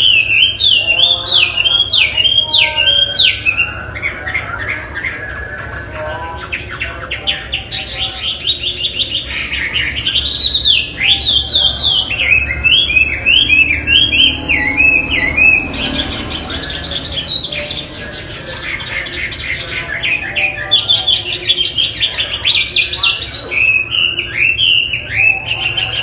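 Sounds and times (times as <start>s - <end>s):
bird whistling song: 0.0s - 5.6s, 6.5s - 26.0s.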